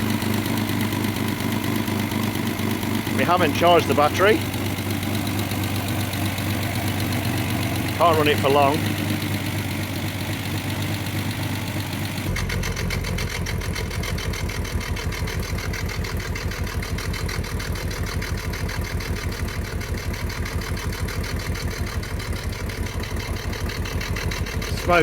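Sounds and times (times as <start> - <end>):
car engine idling unevenly: 0.0 - 25.0.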